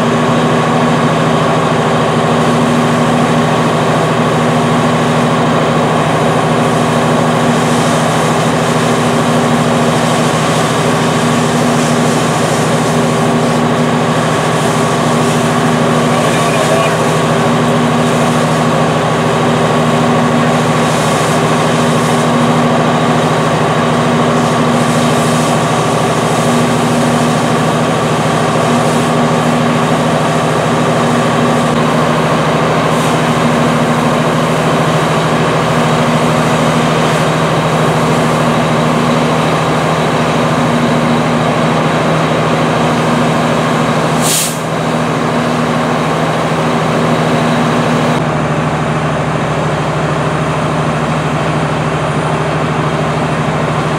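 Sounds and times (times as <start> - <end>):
water spraying from hose: 0.0 - 48.2
diesel engine running: 0.0 - 53.9.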